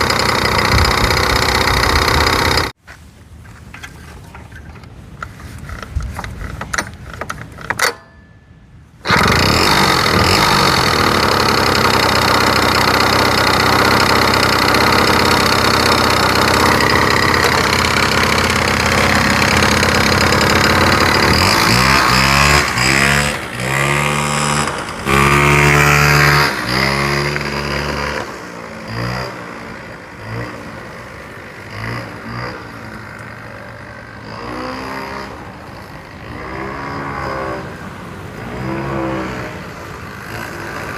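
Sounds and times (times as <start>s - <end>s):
scooter engine revving: 0.0s - 2.8s, 9.0s - 40.9s.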